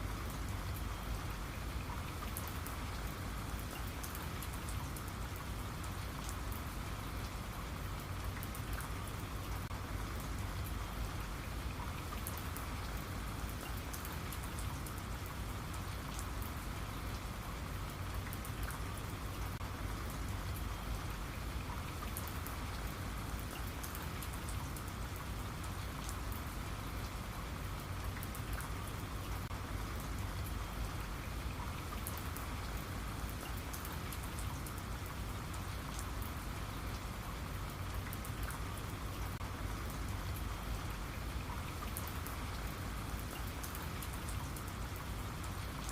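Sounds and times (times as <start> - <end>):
rain hissing and pattering: 0.0 - 45.9.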